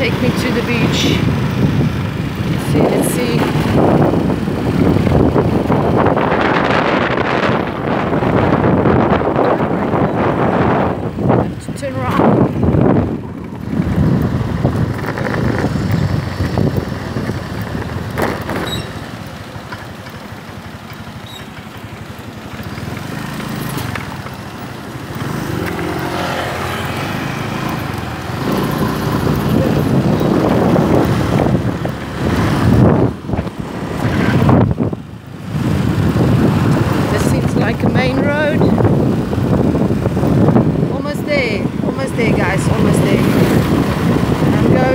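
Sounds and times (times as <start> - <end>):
wind rushing over microphone: 0.0 - 19.3, 22.8 - 44.9
scooter engine running: 0.0 - 44.9.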